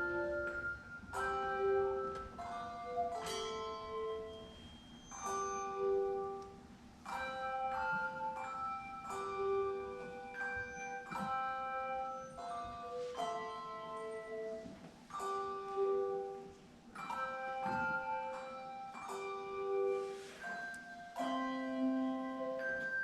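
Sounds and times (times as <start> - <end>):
handbell choir ringing: 0.0 - 23.0.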